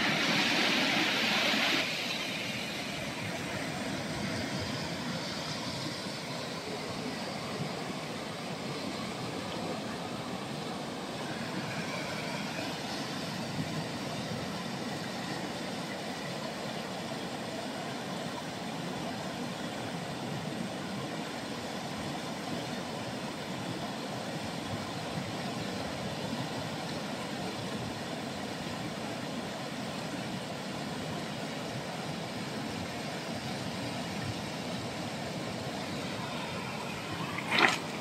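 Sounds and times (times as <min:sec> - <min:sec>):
river rushing through rapids: 0:00.0 - 0:38.0.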